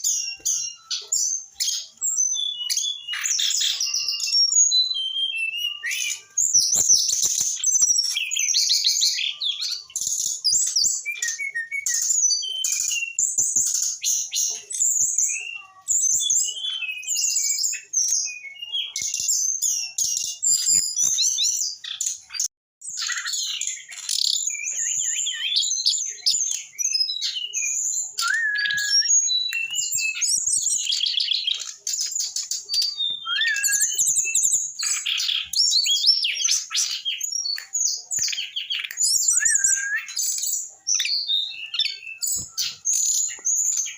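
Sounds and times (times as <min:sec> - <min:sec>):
bird singing trills and whistles: 0:00.0 - 0:43.9.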